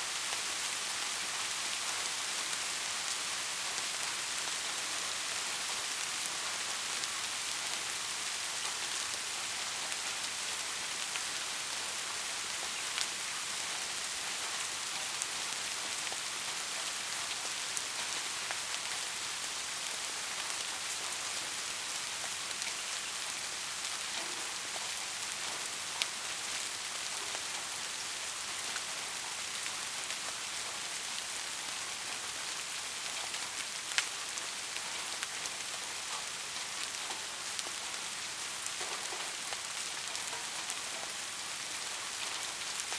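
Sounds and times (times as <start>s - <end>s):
steady rain hiss: 0.0s - 42.9s.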